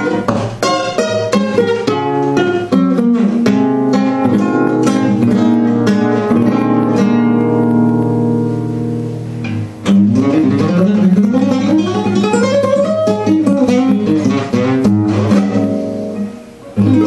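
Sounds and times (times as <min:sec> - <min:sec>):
classical guitar playing: 0:00.0 - 0:17.0.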